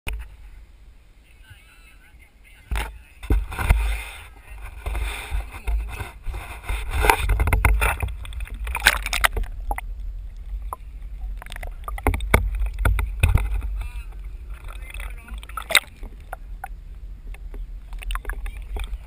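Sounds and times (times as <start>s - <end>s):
low rumble: 2.3s - 19.0s
water sloshing and splashing: 2.8s - 19.0s.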